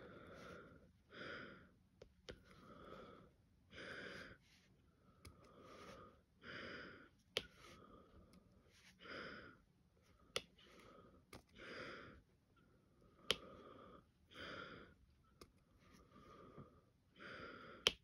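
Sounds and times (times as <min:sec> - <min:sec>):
person breathing: 0:00.0 - 0:18.0.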